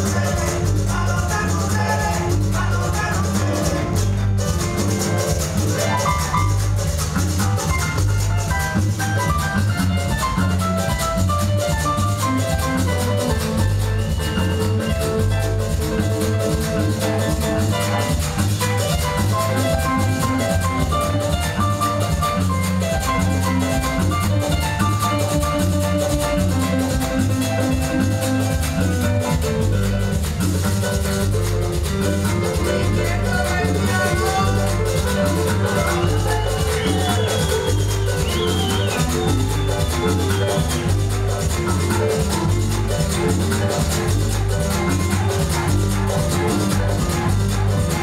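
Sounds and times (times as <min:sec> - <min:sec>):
live band playing dance music: 0:00.0 - 0:48.0.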